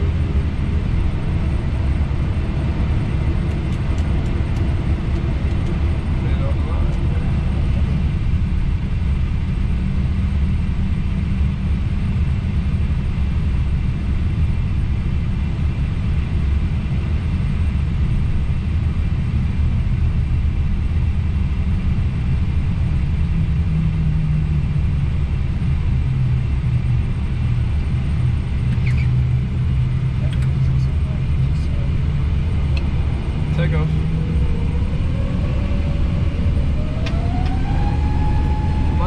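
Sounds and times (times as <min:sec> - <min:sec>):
airliner engines low rumble: 0:00.0 - 0:39.0.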